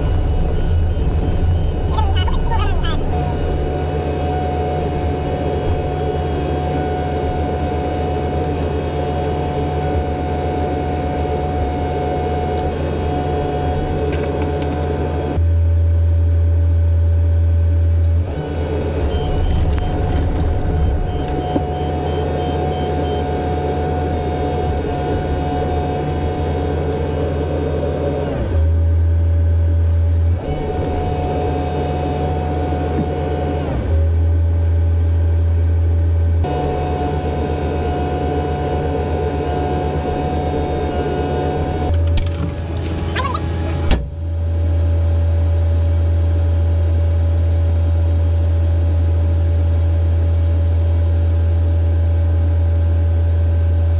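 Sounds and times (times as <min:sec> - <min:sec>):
steady whine: 0:00.0 - 0:46.8
excavator diesel engine running: 0:00.0 - 0:53.9.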